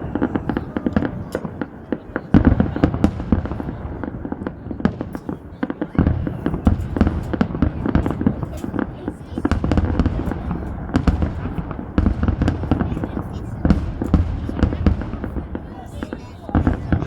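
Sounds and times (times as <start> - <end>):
fireworks bangs and crackling: 0.0 - 17.0
heavy fireworks booms: 0.0 - 17.0.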